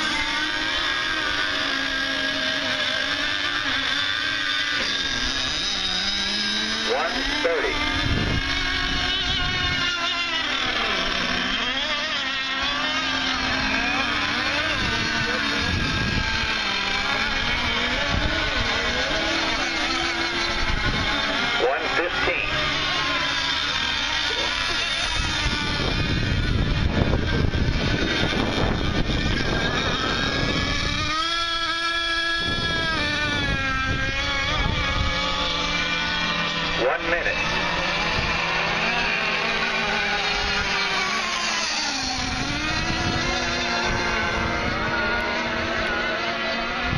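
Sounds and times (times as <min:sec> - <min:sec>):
model boat motors whining: 0:00.0 - 0:46.9.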